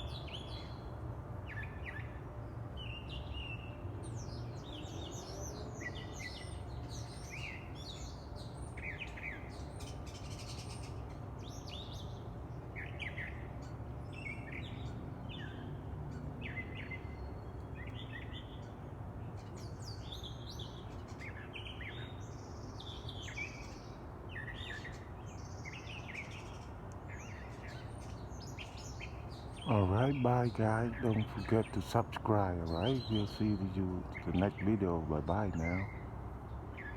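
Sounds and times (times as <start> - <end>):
birds chirping and trilling: 0.0 - 36.9.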